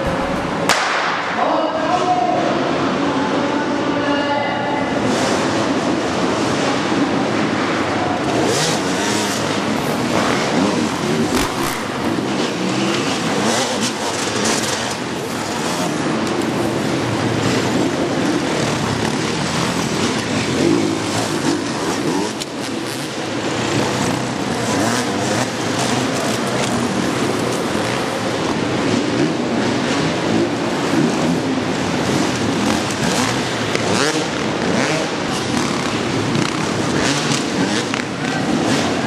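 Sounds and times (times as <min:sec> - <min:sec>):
dirt bikes revving and accelerating: 0:04.8 - 0:39.0.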